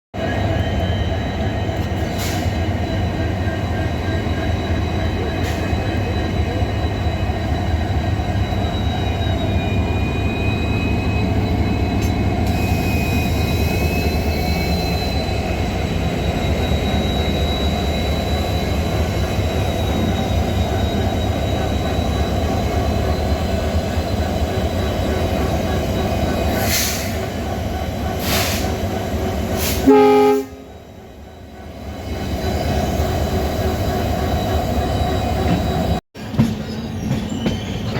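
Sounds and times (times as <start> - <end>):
diesel locomotive rumbling: 0.2 - 37.9
high wheel squeal: 0.2 - 37.9.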